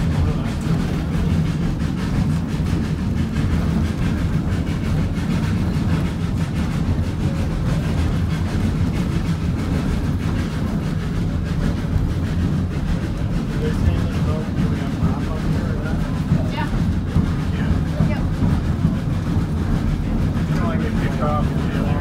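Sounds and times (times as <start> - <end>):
steam train rumbling: 0.0 - 22.0.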